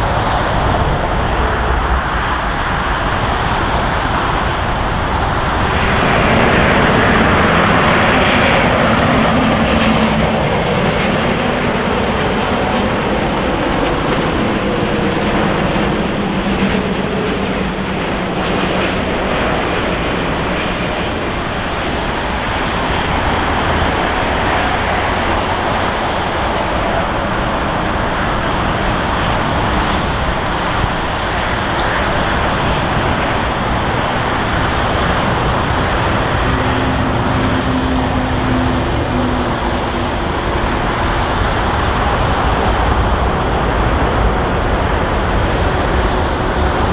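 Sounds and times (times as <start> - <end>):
jet engine rumble: 0.0 - 46.9.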